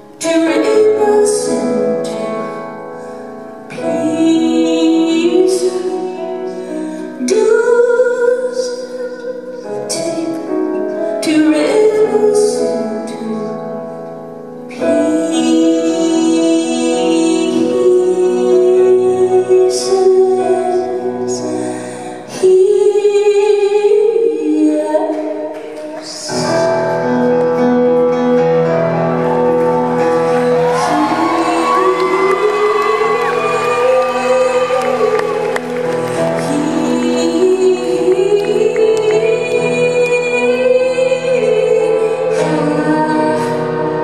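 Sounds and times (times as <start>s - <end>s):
woman singing: 0.0s - 3.0s, 3.6s - 13.9s, 14.7s - 27.0s, 30.3s - 44.0s
piano chords: 0.0s - 44.0s.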